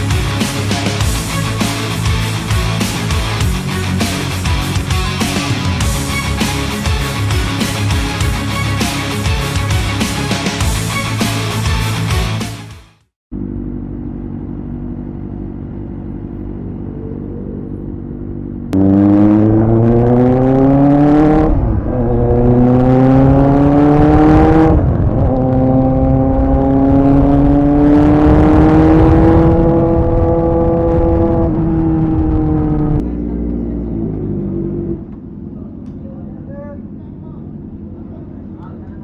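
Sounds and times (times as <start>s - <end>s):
motorcycle engine revving: 0.0s - 12.5s, 13.4s - 39.0s.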